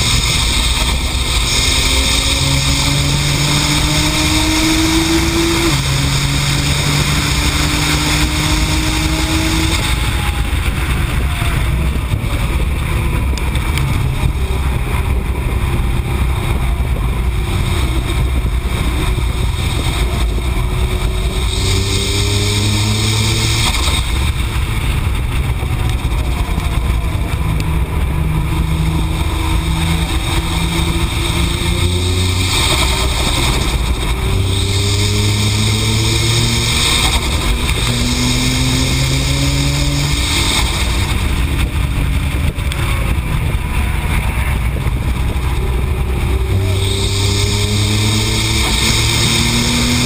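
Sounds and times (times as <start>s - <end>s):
car engine accelerating and shifting: 0.0s - 50.0s
wind and road noise: 0.0s - 50.0s.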